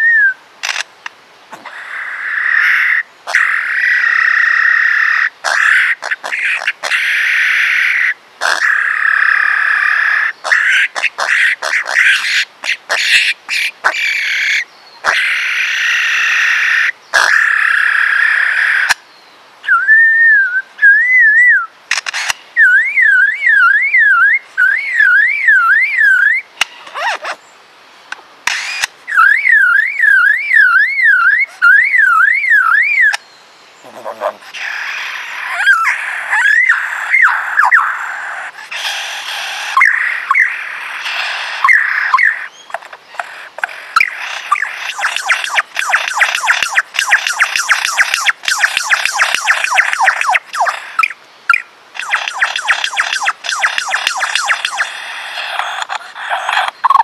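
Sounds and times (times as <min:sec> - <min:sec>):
lyrebird singing: 0:01.5 - 0:27.6, 0:28.5 - 0:57.0.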